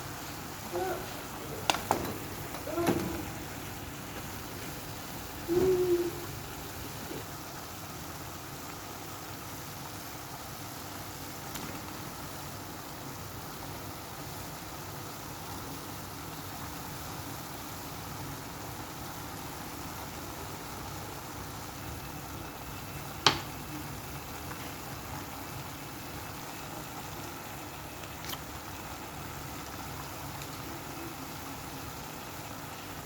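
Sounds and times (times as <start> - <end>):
food hissing on stove: 0.0 - 33.0.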